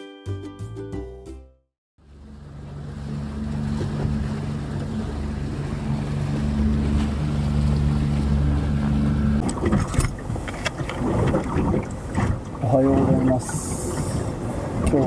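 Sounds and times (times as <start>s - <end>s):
motorboat engine droning: 2.0s - 15.0s.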